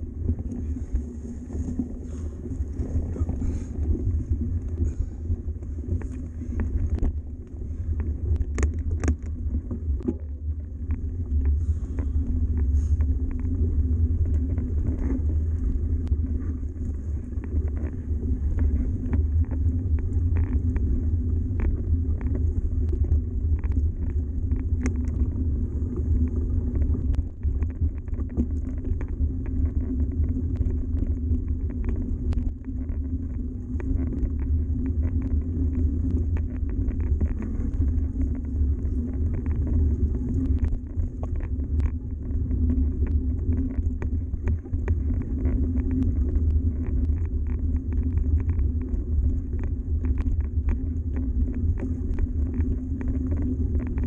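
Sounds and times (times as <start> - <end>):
bike tyres rumbling on gravel: 0.0 - 54.0.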